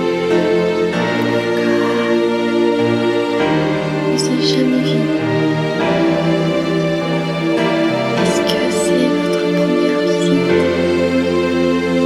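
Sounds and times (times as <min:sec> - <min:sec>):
background music of sustained chords: 0:00.0 - 0:12.0.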